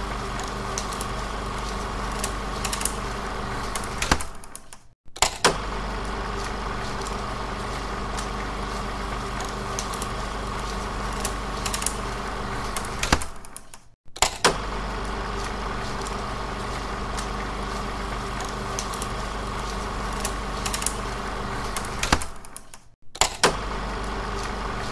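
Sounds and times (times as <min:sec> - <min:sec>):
film projector humming: 0:00.0 - 0:04.5, 0:05.4 - 0:13.5, 0:14.4 - 0:22.5, 0:23.4 - 0:24.9.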